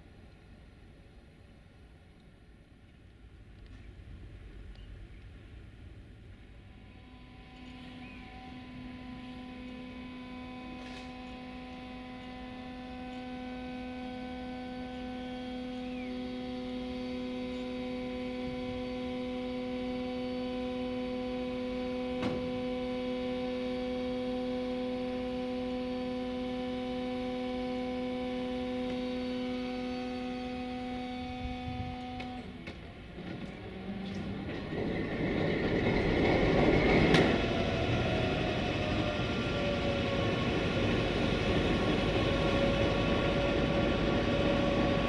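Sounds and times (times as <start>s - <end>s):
diesel locomotive humming: 0.0s - 45.0s.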